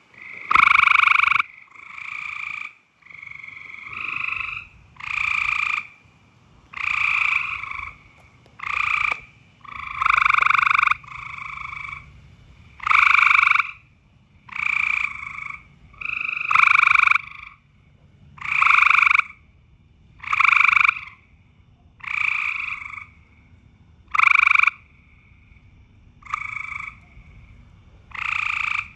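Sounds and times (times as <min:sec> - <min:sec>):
frogs croaking: 0:00.0 - 0:28.9.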